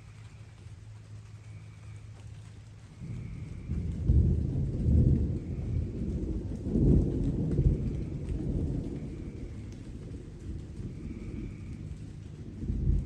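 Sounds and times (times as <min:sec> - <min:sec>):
distant thunder rumbling: 0:00.0 - 0:13.0
light rain: 0:00.0 - 0:13.0.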